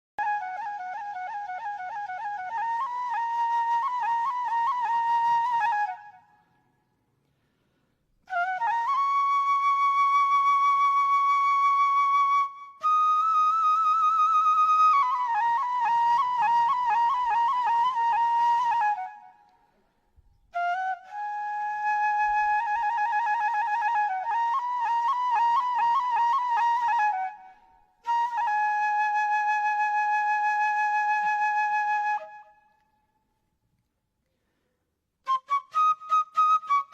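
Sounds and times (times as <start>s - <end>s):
solo flute slow melody: 0.2s - 6.7s, 8.2s - 33.4s, 35.2s - 36.9s.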